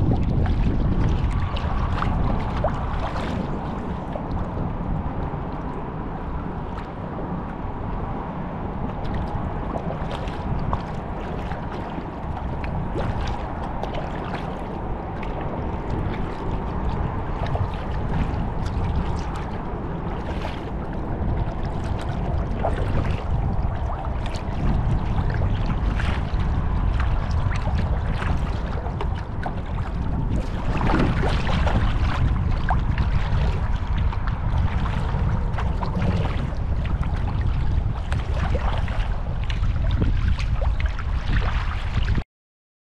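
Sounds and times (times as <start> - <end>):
paddle splashes and drips: 0.0 - 42.2
water lapping against hull: 0.0 - 42.2
wind buffeting microphone: 0.0 - 42.2.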